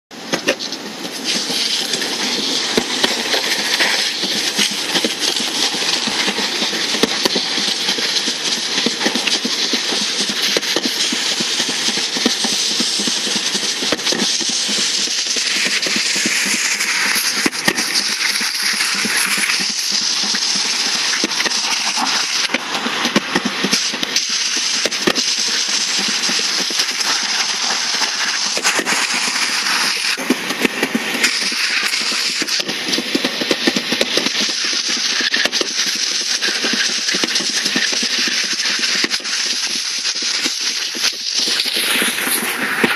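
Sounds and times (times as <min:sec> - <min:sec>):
skate wheels rolling on concrete: 0:00.1 - 0:42.9.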